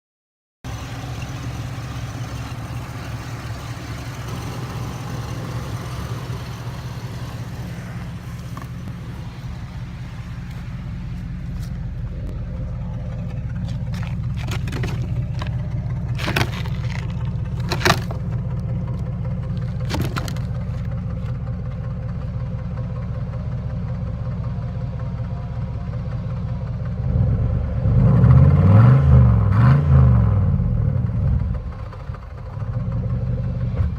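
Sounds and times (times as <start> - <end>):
truck engine idling: 0.6 - 28.7, 30.2 - 33.9.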